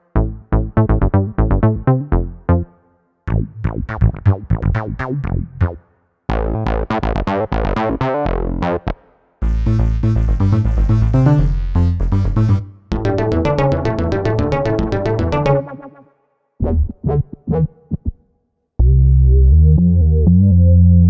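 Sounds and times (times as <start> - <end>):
punchy synth bass riff: 0.2 - 2.7, 3.3 - 16.0, 18.8 - 21.0.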